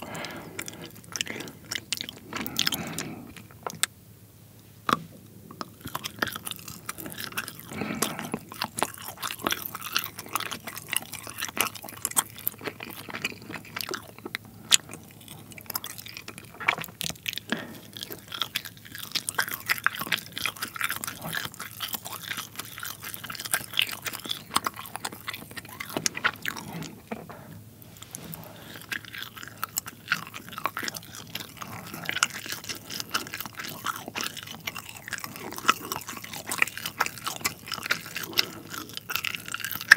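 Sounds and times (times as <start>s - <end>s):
wet mouth clicks and squishes: 0.0s - 3.9s, 4.9s - 27.3s, 28.0s - 39.9s
chewing soft cheese: 0.0s - 4.0s, 4.9s - 39.9s.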